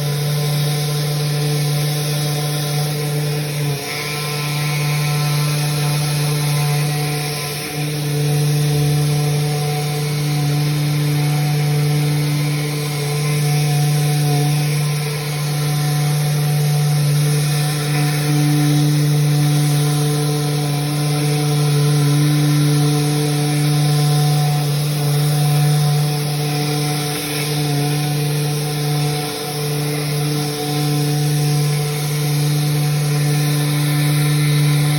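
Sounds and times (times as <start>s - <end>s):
power sander on wood: 0.0s - 34.9s.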